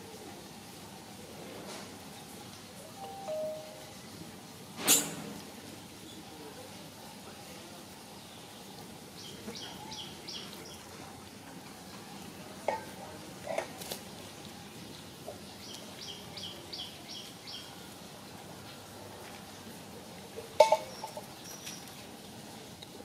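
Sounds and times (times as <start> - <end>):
faint outdoor background: 0.0 - 23.0.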